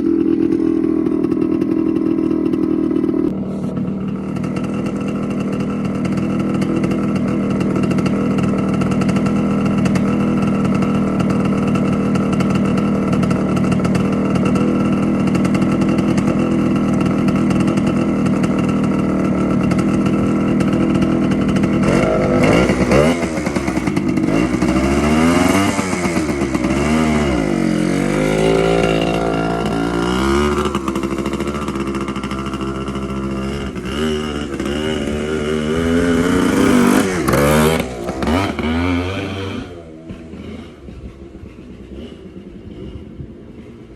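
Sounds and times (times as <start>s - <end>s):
dirt bike engine idling and revving: 0.0s - 43.9s.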